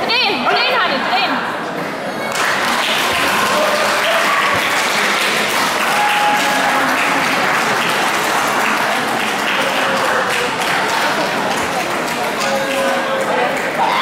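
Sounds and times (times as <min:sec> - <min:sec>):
spectators applauding: 0:02.3 - 0:14.0.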